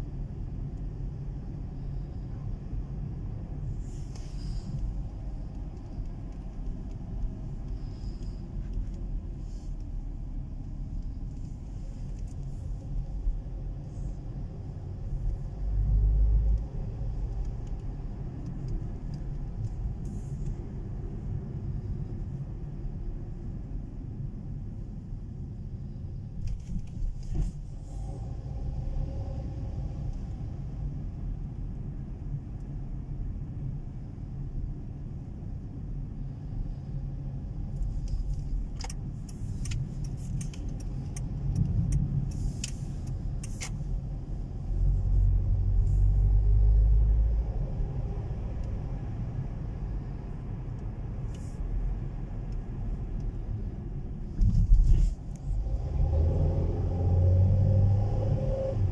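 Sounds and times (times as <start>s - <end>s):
motor vehicle rumble: 0.0s - 58.9s.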